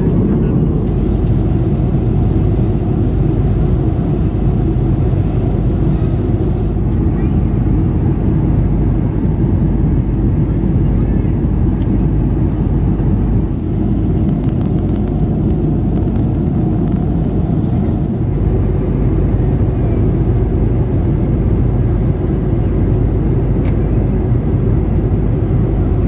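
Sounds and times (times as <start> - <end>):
airplane cabin rumble: 0.0 - 26.0.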